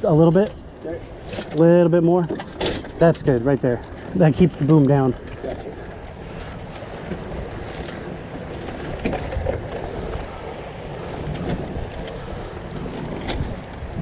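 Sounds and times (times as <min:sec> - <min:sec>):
water washing along hull: 0:00.0 - 0:14.0
wind over microphone: 0:02.3 - 0:14.0.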